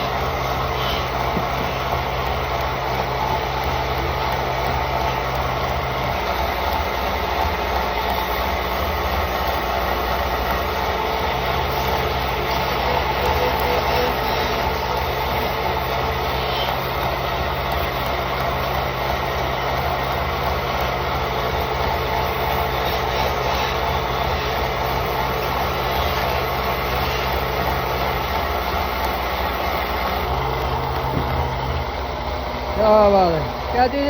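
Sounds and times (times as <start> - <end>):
lathe motor humming: 0.0 - 34.0.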